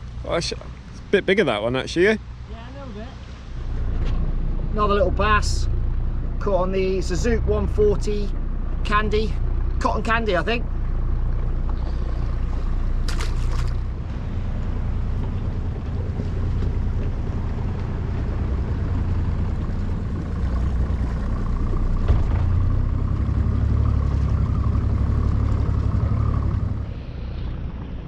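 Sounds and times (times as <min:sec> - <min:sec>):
boat motor running: 0:00.0 - 0:28.0.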